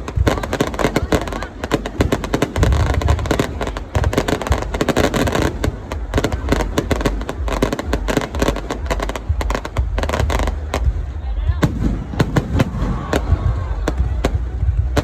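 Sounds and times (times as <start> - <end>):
deep fireworks booms: 0.0 - 15.0
fireworks crackling: 0.0 - 15.0.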